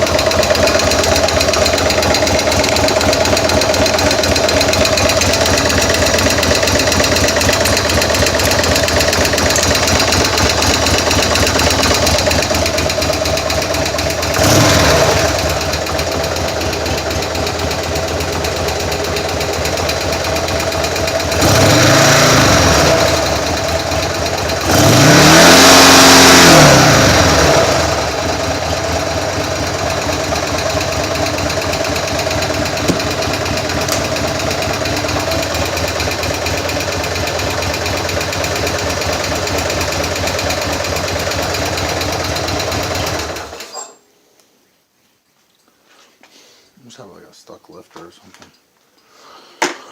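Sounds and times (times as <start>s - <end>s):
motorcycle engine idling and revving: 0.0s - 43.8s.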